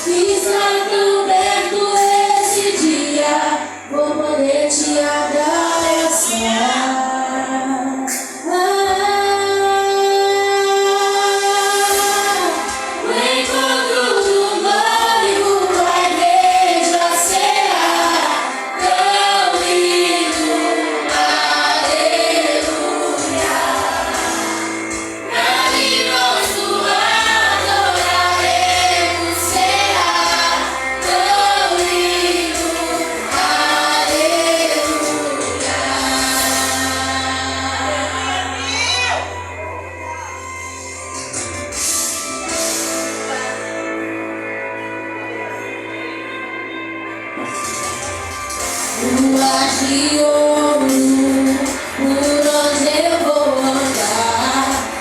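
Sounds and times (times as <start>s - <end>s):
vocal group singing gospel: 0.0s - 39.4s, 48.5s - 55.0s.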